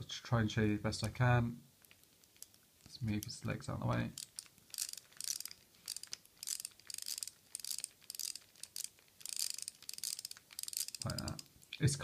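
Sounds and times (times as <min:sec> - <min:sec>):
plastic gears ratcheting: 0:01.8 - 0:11.6.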